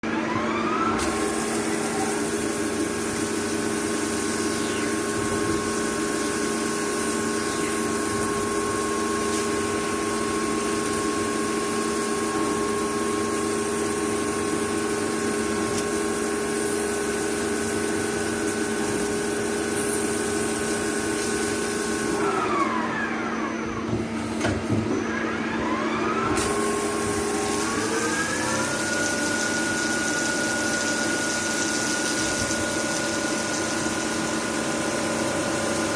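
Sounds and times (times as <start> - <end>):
machine spindle whining: 0.1 - 35.9.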